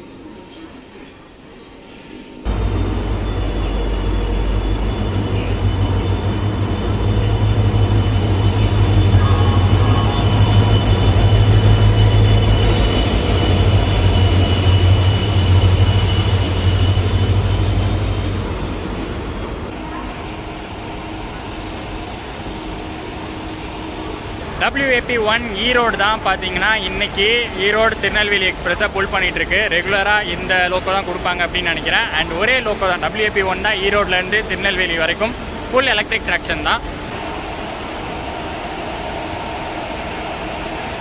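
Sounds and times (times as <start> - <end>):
electric locomotive hum and whine: 0.0 - 41.0.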